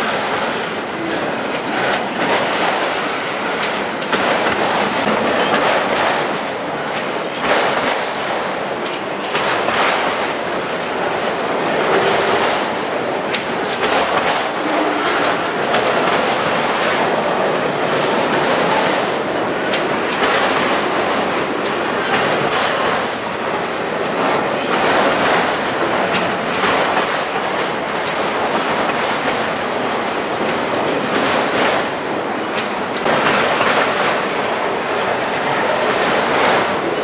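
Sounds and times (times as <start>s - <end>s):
train wheels rolling on rail: 0.0s - 37.0s
wheels clicking over rail joints: 0.0s - 37.0s.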